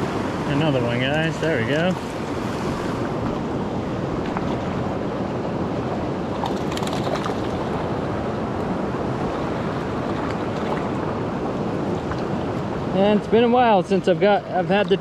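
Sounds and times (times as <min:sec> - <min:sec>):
creek rushing: 0:00.0 - 0:15.0.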